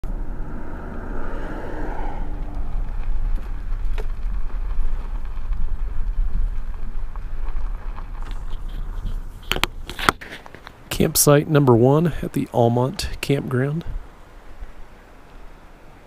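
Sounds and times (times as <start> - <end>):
car driving on gravel: 0.0 - 16.0.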